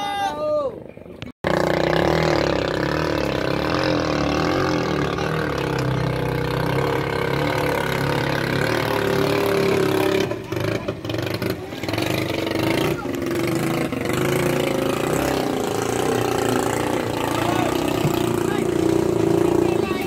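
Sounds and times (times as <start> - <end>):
small boat engine running: 1.4 - 20.0.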